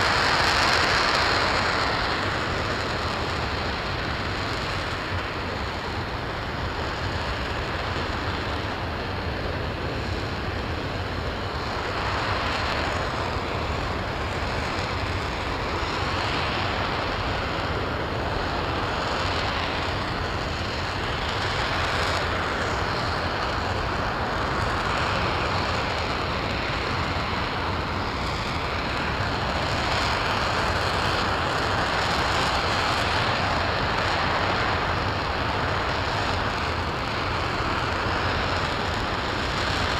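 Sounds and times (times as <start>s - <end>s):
rocket engine firing: 0.0s - 39.9s.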